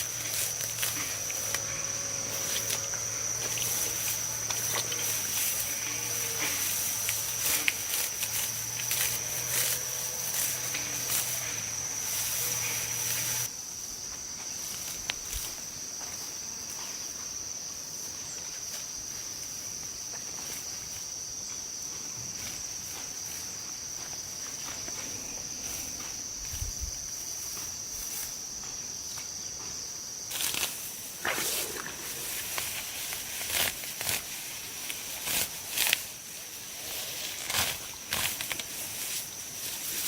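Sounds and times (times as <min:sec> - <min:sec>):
insects calling: 0:00.0 - 0:40.0
rustle: 0:00.0 - 0:40.0.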